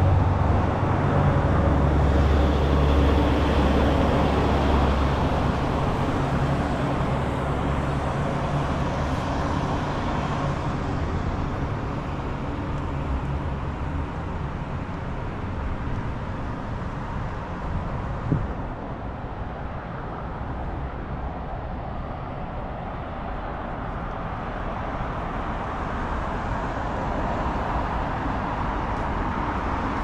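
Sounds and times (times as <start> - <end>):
passing cars road noise: 0.0 - 30.0.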